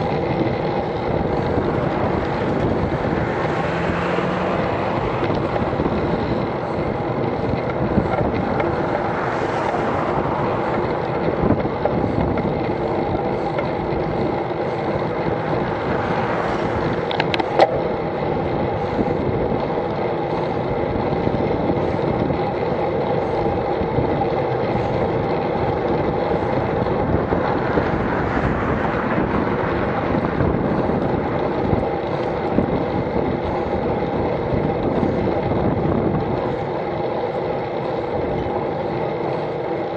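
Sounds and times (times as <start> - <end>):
bicycle tyre road noise: 0.0 - 39.9
car passing: 0.0 - 39.9
wind rushing over microphone: 0.0 - 39.9.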